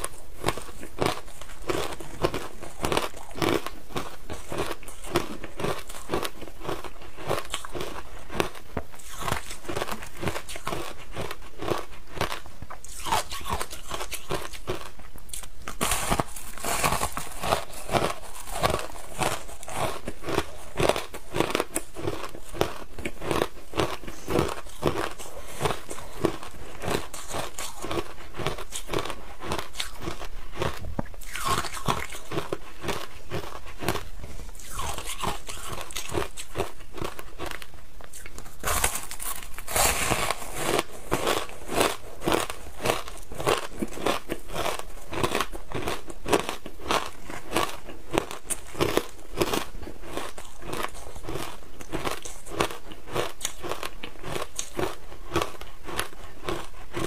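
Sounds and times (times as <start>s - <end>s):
ice crunching as it is chewed: 0.0s - 57.0s.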